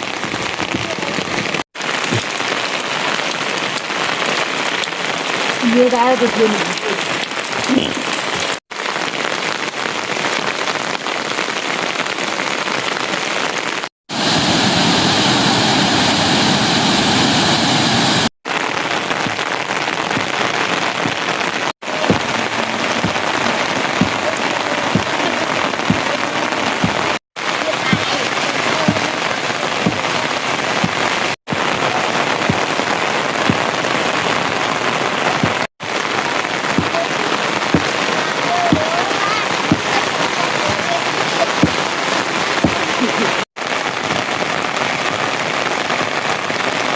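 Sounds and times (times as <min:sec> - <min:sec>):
heavy water drips: 0:00.0 - 0:16.6, 0:17.5 - 0:46.9
rain falling: 0:00.0 - 0:46.9.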